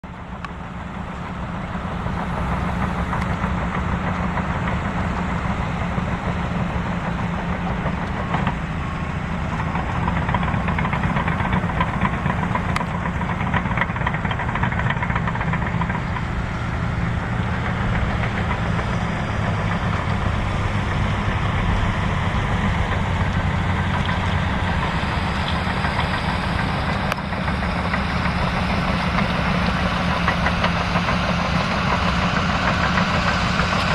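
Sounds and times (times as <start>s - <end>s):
propeller airplane engine droning: 0.0s - 33.9s.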